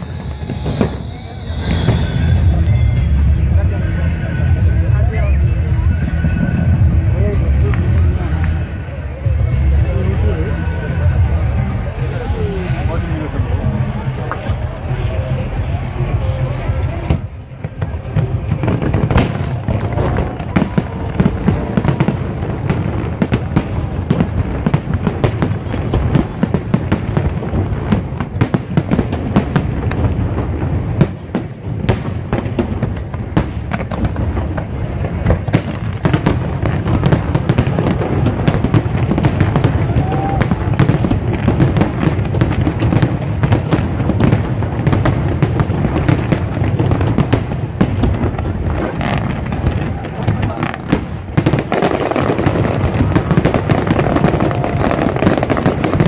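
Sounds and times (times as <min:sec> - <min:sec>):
deep fireworks booms: 0:00.0 - 0:56.0
fireworks bangs and crackles: 0:00.0 - 0:56.0.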